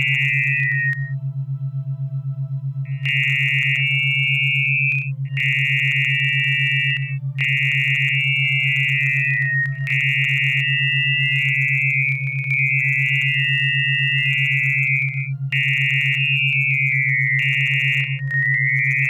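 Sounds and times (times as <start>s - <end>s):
high wavering sine tone: 0.0s - 19.0s
low pulsing electronic tone: 0.0s - 19.0s.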